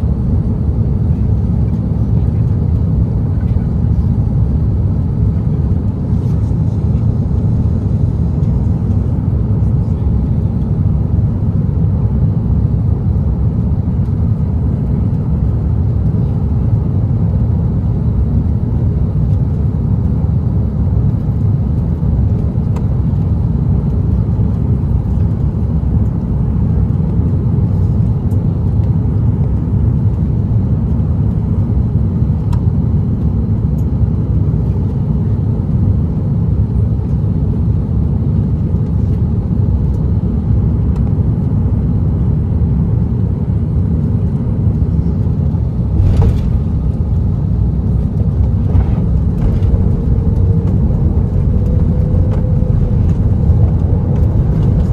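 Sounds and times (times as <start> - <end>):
aircraft cabin engine drone: 0.0 - 54.9.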